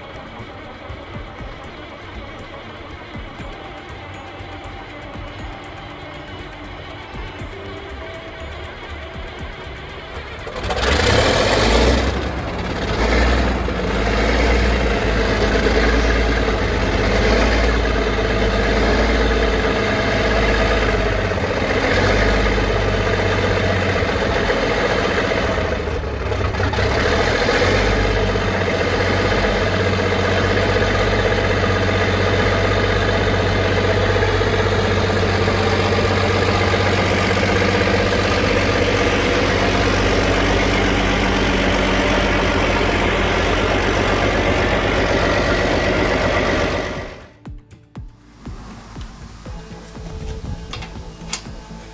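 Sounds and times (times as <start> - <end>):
old engine starting and running: 0.0 - 47.4, 48.3 - 51.9.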